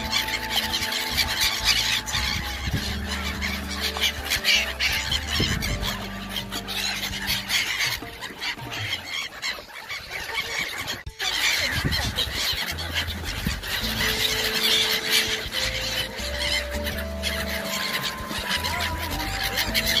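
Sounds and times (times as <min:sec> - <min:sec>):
background music: 0:00.0 - 0:10.2, 0:10.9 - 0:20.0
water birds calling: 0:00.0 - 0:20.0.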